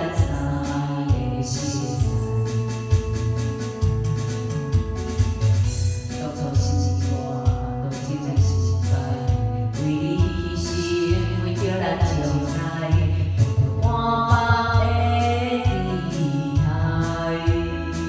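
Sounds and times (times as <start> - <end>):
woman singing into microphone: 0.0 - 4.1, 6.1 - 18.0
backing track with bass beat: 0.0 - 18.0.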